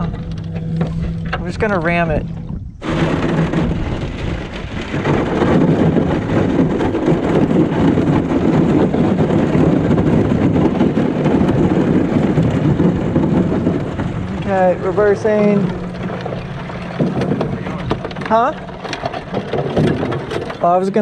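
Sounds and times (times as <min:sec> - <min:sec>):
ice cracking against boat hull: 0:02.8 - 0:21.0.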